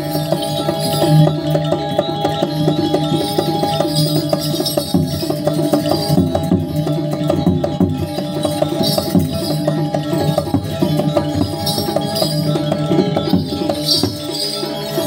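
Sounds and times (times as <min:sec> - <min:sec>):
gamelan playing fast ringing tones: 0:00.0 - 0:15.0.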